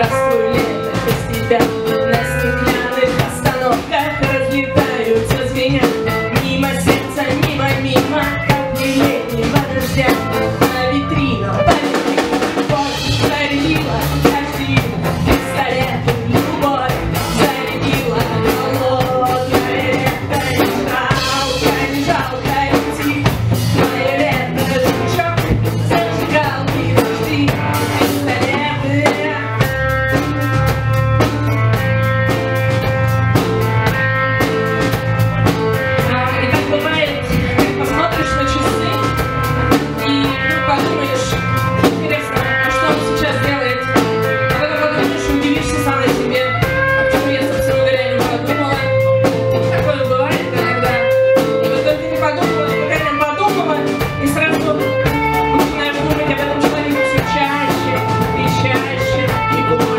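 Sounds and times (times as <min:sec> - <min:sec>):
woman singing: 0:00.0 - 0:31.9, 0:34.8 - 0:59.9
drum kit: 0:00.0 - 0:59.9
electric guitars: 0:00.0 - 0:59.9.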